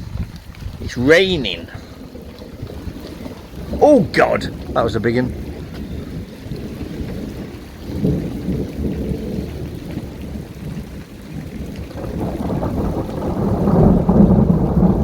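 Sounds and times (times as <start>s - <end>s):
falling rain: 0.0s - 15.0s
thunder rumbling: 0.0s - 15.0s.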